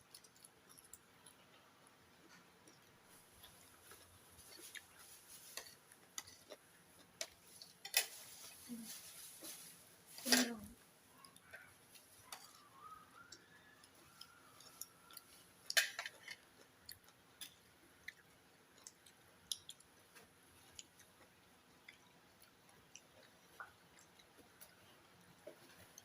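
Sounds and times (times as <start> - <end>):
chewing: 0.0 - 8.6, 11.1 - 26.0.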